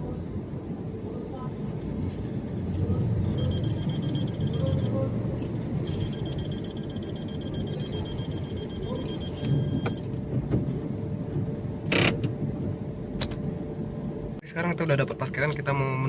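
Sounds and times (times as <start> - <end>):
low car cabin rumble: 0.0 - 14.4.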